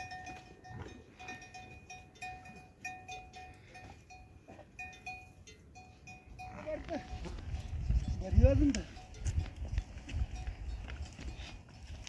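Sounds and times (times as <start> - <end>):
metal livestock bell clanking: 0.0 - 12.0.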